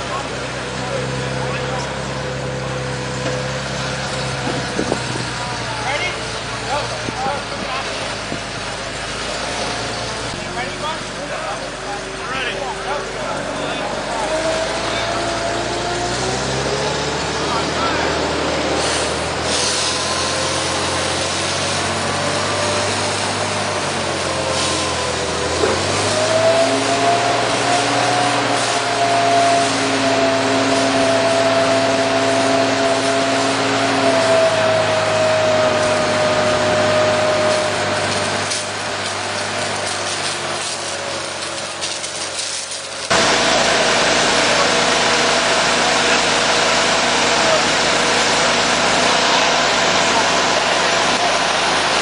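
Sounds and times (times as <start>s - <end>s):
diesel engine running: 0.0s - 52.0s
water hissing from hose: 2.7s - 52.0s.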